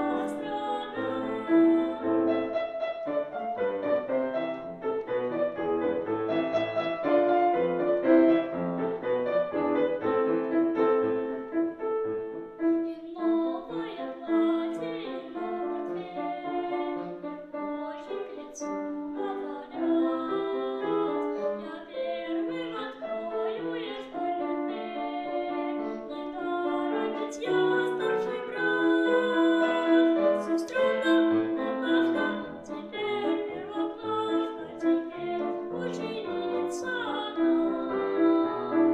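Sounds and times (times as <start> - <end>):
piano-led children's song instrumental: 0.0 - 38.9.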